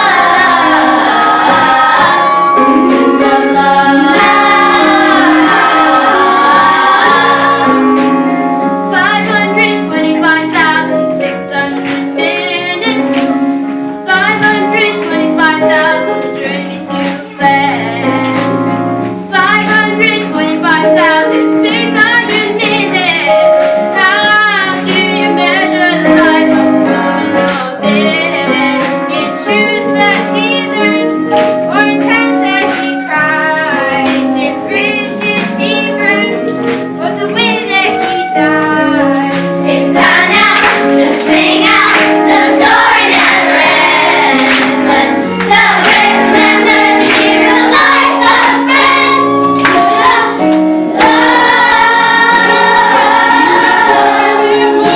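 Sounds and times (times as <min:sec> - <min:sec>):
children singing together: 0:00.0 - 0:13.2, 0:19.3 - 0:54.9
musical accompaniment: 0:00.0 - 0:54.9.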